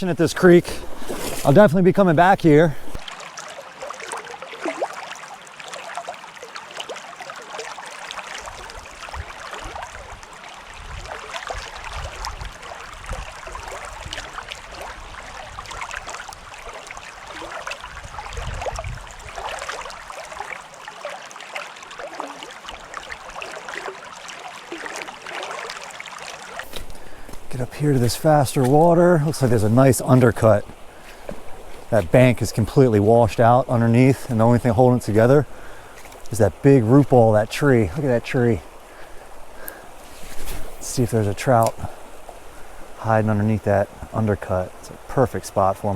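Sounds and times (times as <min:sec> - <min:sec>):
creek water running over rocks: 0:00.0 - 0:45.9.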